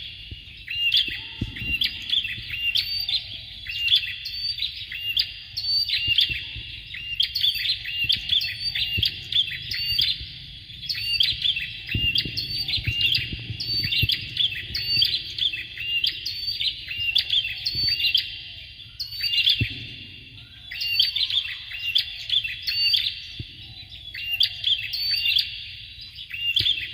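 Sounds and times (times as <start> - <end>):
birds chirping sharply: 0.0 - 26.9.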